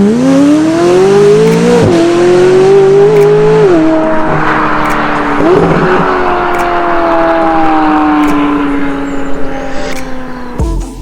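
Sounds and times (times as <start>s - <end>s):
car engine accelerating hard: 0.0s - 10.6s.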